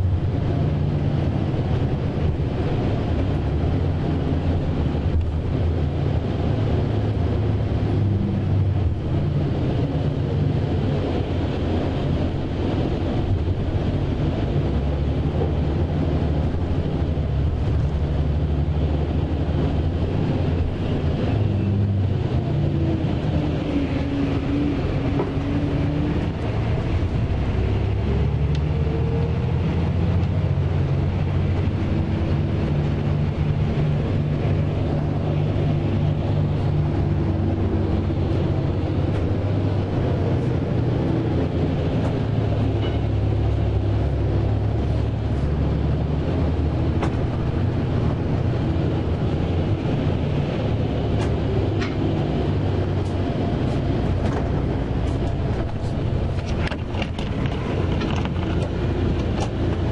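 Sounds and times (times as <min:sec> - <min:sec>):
engine hum inside bus: 0:00.0 - 0:59.9.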